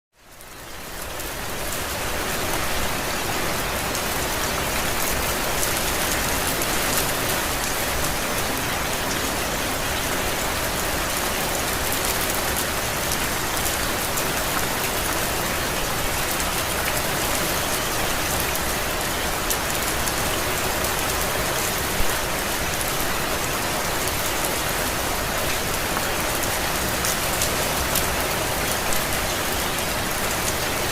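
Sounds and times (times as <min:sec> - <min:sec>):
steady rain falling: 0:00.2 - 0:30.9.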